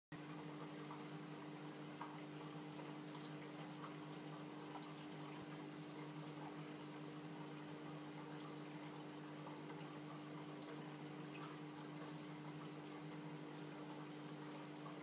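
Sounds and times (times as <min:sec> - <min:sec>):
aquarium running water: 0:00.1 - 0:15.0
pump hum: 0:00.2 - 0:15.0.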